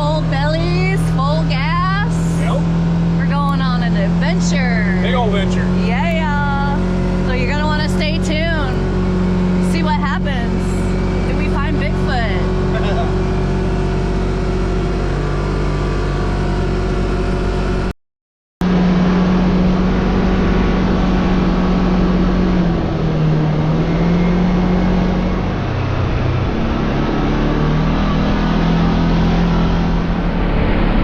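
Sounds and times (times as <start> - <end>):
vehicle engine revving: 0.0 - 17.9, 18.6 - 31.0.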